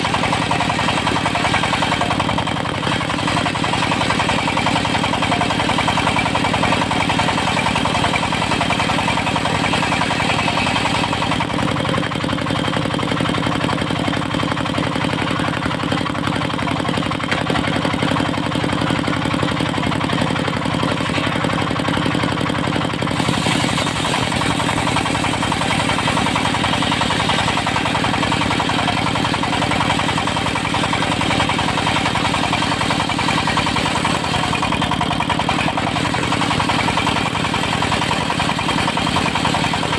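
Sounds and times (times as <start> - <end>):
diesel engine running sawmill: 0.0 - 39.9.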